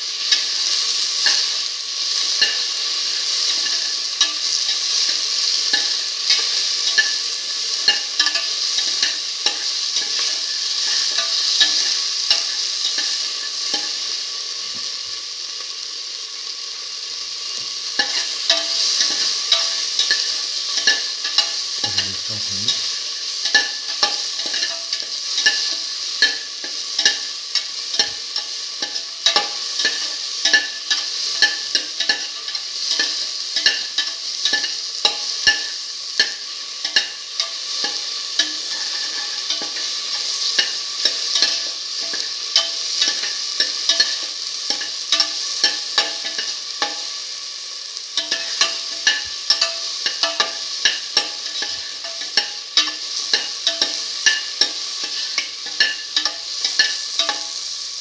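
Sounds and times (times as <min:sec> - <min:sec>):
food sizzling in hot oil: 0:00.0 - 0:58.0
metal spoon scraping a pan: 0:00.2 - 0:14.2, 0:17.6 - 0:22.1, 0:22.7 - 0:47.2, 0:48.1 - 0:57.8.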